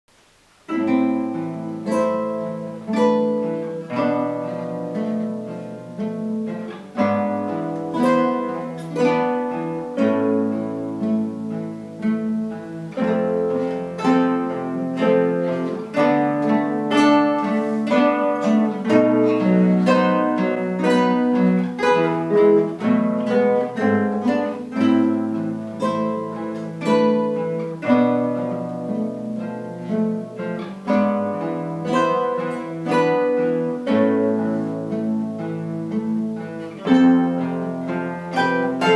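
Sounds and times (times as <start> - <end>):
acoustic guitar ensemble playing: 0.6 - 38.9.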